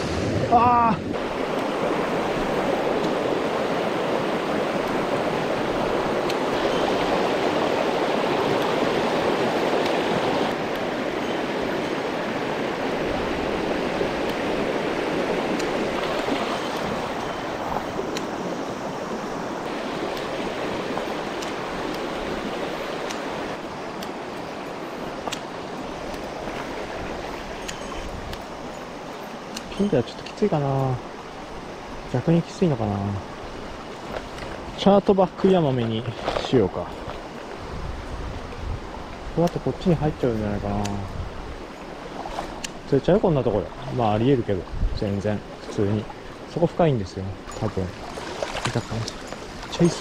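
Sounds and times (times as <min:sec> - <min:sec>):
stream rushing over rocks: 0:00.0 - 0:50.0.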